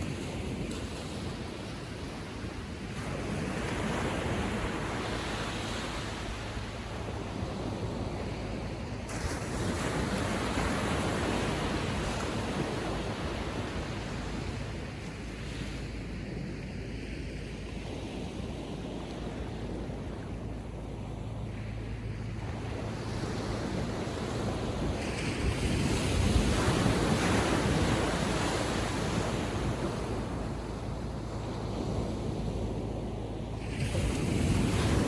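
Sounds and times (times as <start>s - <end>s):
small waves breaking on shore: 0.0s - 35.0s.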